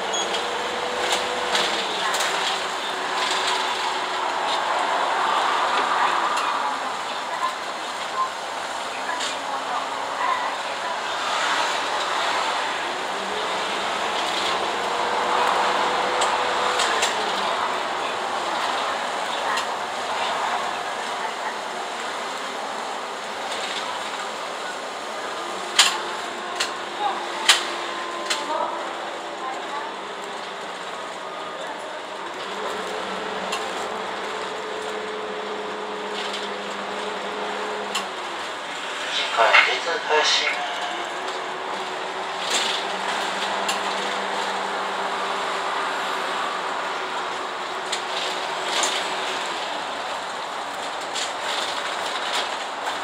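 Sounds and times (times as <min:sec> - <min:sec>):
bus road and engine roar: 0:00.0 - 0:53.0.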